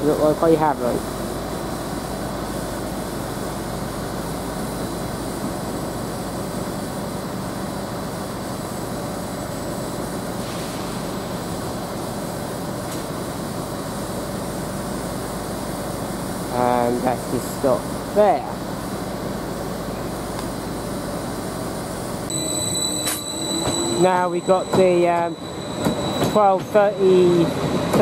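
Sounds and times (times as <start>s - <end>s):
train drawing into platform: 0.0s - 28.0s.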